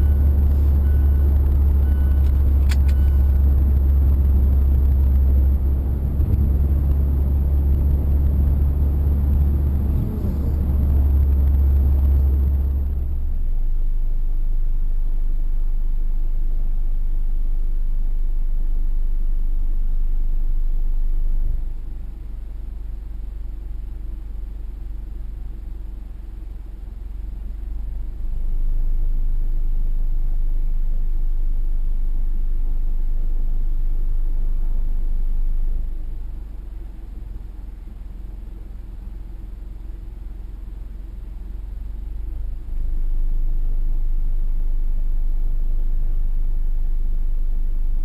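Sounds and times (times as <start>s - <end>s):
car exhaust rumble: 0.0s - 48.0s.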